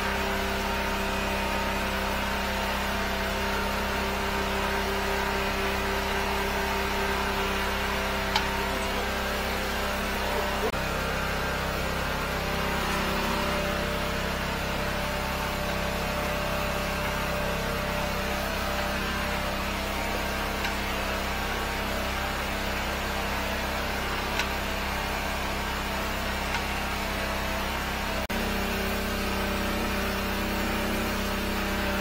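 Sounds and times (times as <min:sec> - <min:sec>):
drain jetter engine running: 0:00.0 - 0:32.0.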